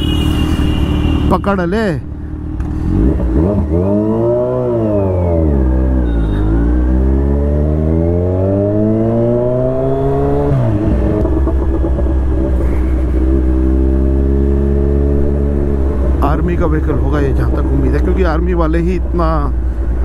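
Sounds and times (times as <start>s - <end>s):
motorcycle engine accelerating: 2.2s - 20.0s.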